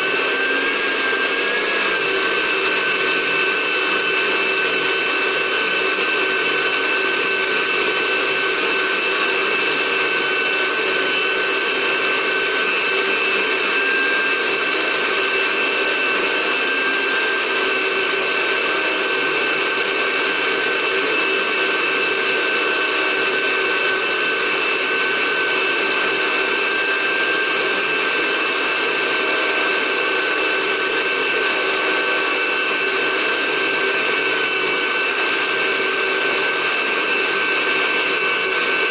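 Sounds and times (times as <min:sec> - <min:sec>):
electric blender grinding: 0:00.0 - 0:38.9.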